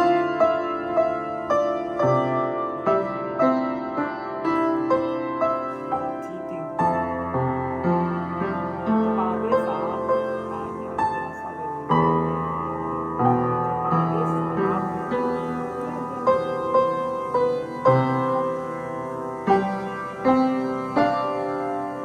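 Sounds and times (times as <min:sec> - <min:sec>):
solo piano melody: 0:00.0 - 0:22.0.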